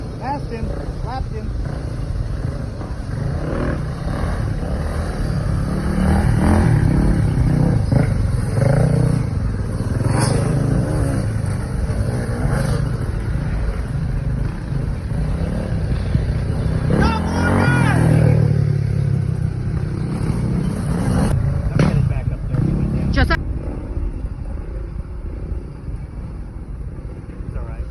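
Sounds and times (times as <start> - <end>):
dirt bike engine revving: 0.0 - 23.4.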